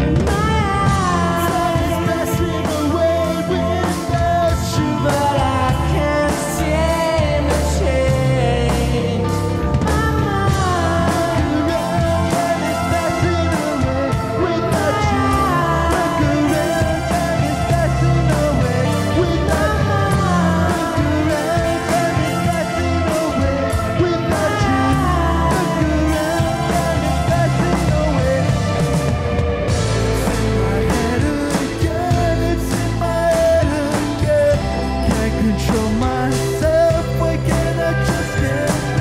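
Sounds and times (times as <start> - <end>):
drum kit: 0.0 - 39.0
electric bass: 0.0 - 39.0
electric guitar: 0.0 - 39.0
person singing: 0.0 - 39.0.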